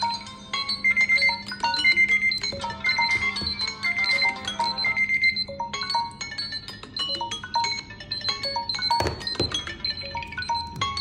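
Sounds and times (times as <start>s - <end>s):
phone alarm tones chiming: 0.0s - 11.0s.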